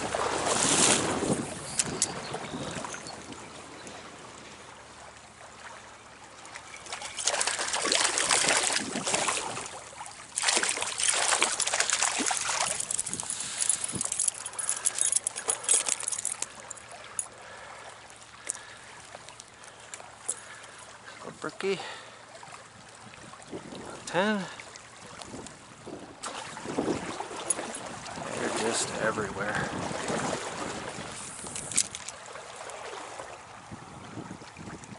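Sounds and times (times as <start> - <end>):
stream trickling: 0.0 - 34.9
water splashing: 0.0 - 34.9.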